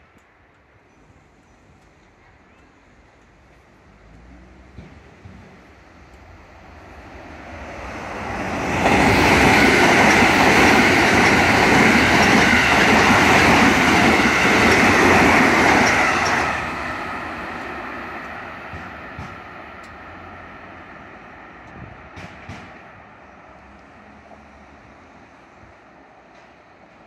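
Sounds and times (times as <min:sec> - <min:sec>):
train wheels running over rails: 0:03.1 - 0:27.0.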